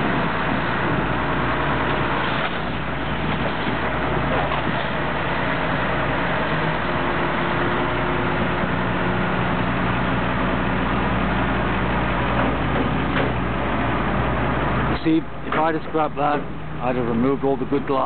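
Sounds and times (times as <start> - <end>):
heavy engine idling: 0.0 - 18.0.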